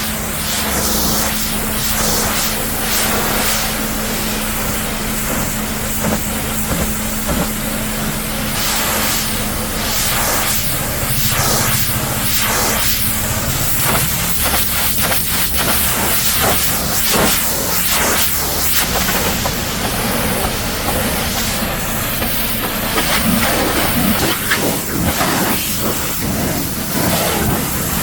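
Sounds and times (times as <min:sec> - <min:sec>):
steady low hum: 0:00.0 - 0:28.0
water jet spraying on vehicle: 0:00.0 - 0:28.0.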